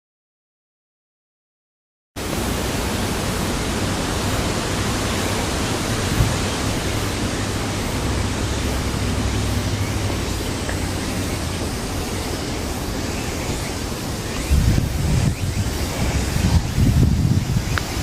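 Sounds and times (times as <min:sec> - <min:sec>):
wind buffeting microphone: 0:02.2 - 0:18.0.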